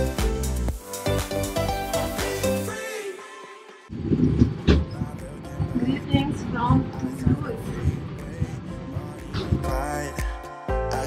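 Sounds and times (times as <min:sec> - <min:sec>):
instrumental music with deep bass: 0:00.0 - 0:02.8, 0:03.8 - 0:11.0.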